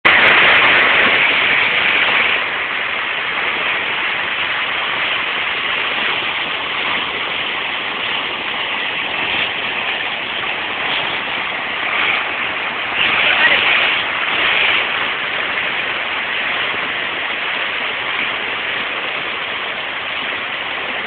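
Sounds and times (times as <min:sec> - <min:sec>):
river water rushing over boulders: 0:00.0 - 0:21.0.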